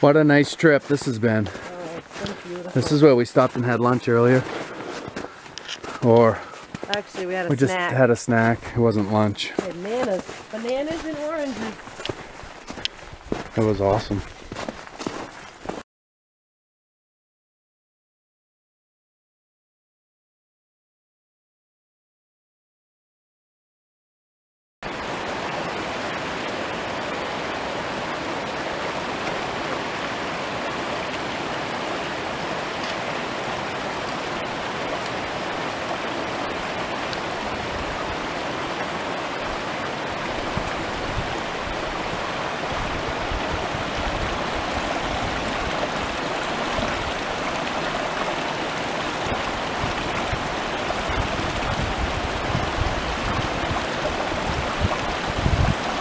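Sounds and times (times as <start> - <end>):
stream rushing over rocks: 0.0 - 15.8, 24.8 - 56.0.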